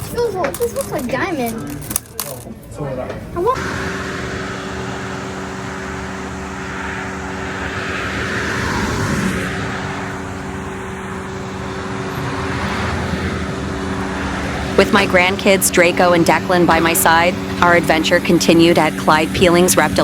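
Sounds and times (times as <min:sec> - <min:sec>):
car engine and tyre noise: 0:03.0 - 0:20.0
low hum tones: 0:03.3 - 0:20.0.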